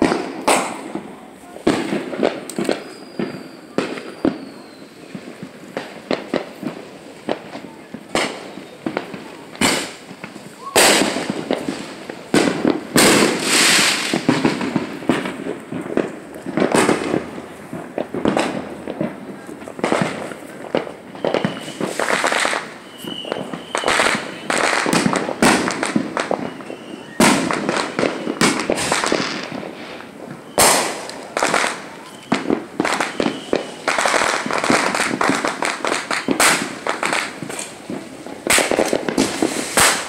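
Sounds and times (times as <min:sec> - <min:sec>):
fireworks banging: 0:00.0 - 0:40.0.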